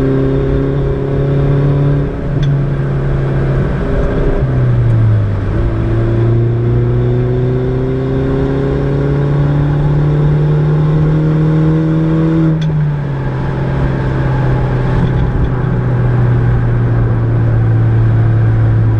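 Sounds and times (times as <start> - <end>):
car engine accelerating: 0.0 - 18.9.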